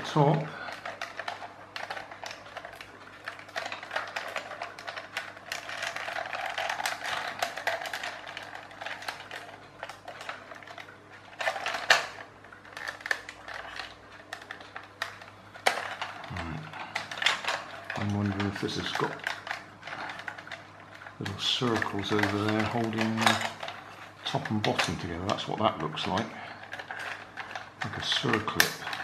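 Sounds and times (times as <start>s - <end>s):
plastic toy clicking and rattling: 0.0s - 29.0s.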